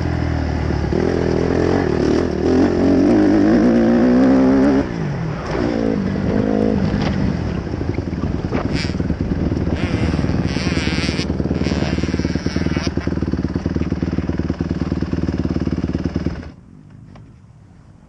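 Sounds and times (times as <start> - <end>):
dirt bike engine revving: 0.0 - 16.6.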